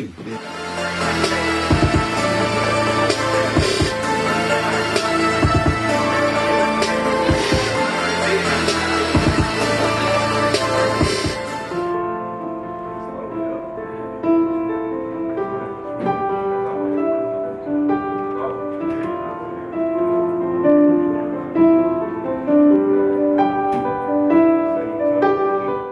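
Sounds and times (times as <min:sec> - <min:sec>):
keyboard melody: 0:00.0 - 0:25.9.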